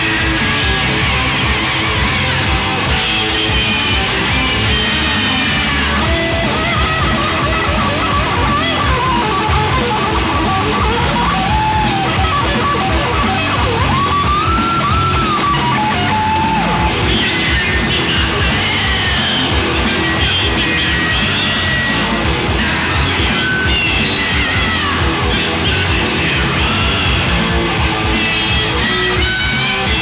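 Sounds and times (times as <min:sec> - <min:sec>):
electric guitar lead: 0:00.0 - 0:30.0
heavy metal band playing: 0:00.0 - 0:30.0.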